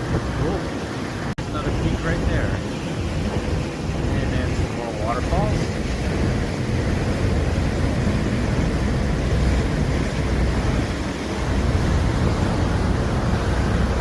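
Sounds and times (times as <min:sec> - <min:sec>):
boat engine: 0:00.0 - 0:14.0
rushing water: 0:00.0 - 0:14.0
wind buffeting microphone: 0:00.0 - 0:14.0.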